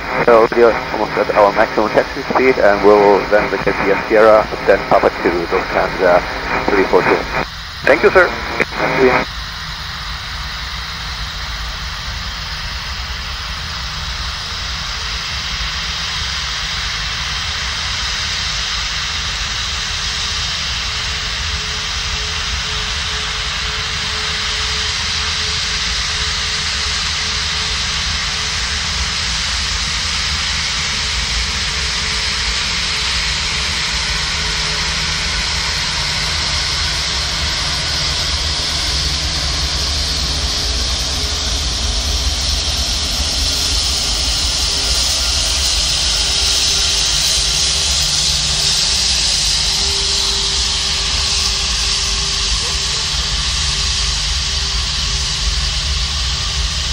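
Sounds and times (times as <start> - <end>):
faint jet engine whine: 0.0 - 56.9
jet engines rushing hiss: 0.0 - 56.9.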